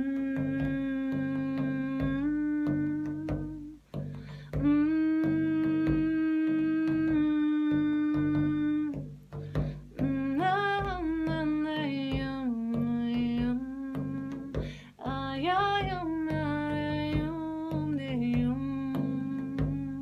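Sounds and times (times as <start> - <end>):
hand strikes on frame drum: 0.0 - 20.0
woman singing long held notes: 0.0 - 20.0.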